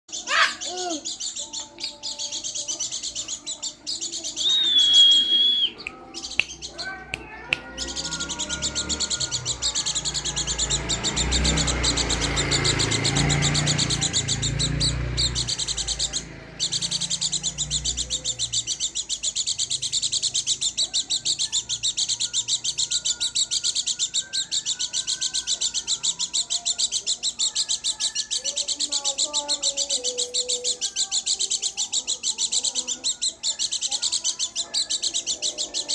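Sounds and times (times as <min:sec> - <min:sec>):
songbird twittering song: 0:00.1 - 0:35.9.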